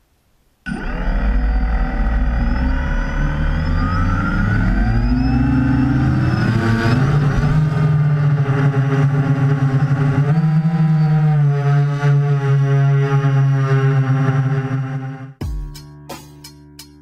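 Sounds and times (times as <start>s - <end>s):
drone motors whining: 0.7s - 15.4s.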